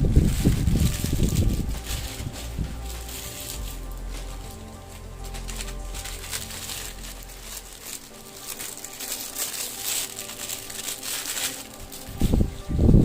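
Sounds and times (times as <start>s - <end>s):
packaging crinkling: 0.0s - 12.7s.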